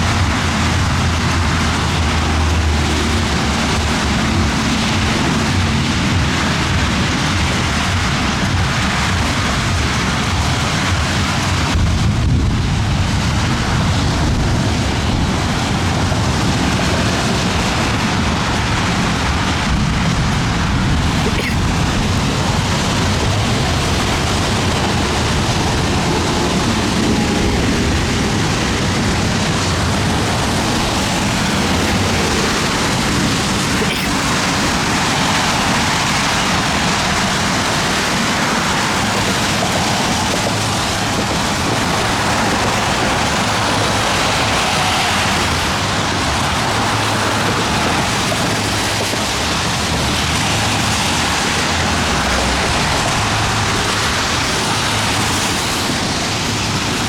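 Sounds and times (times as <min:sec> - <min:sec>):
rain: 0:00.0 - 0:57.0.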